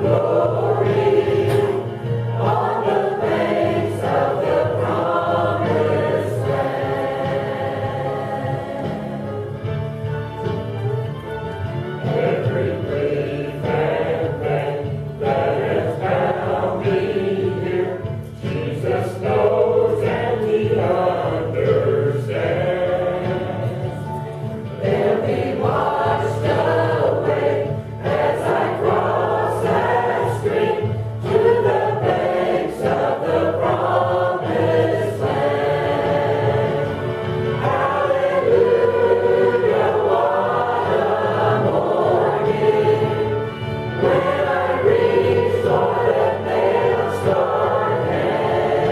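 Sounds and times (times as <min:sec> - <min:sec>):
choir singing gospel: 0:00.0 - 0:10.6, 0:11.8 - 0:48.9.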